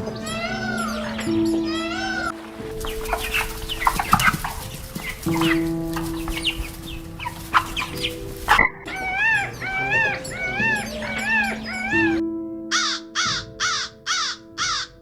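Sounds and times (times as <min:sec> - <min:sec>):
background music: 0:00.0 - 0:15.0
bird calls: 0:00.0 - 0:15.0.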